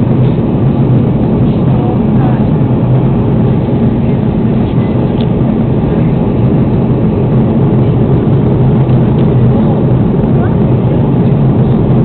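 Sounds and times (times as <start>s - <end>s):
airplane cabin drone: 0.0s - 12.0s.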